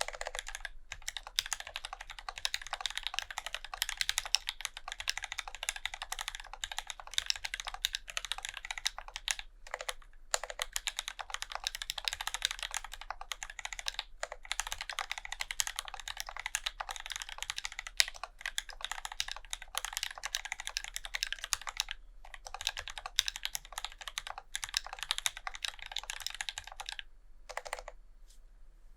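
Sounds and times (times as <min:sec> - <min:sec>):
fast mechanical keyboard typing: 0:00.0 - 0:28.0.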